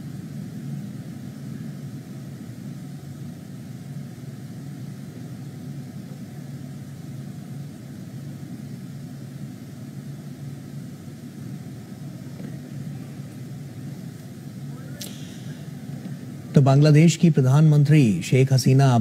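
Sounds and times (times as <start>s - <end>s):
faint hum and hiss: 0.0s - 19.0s.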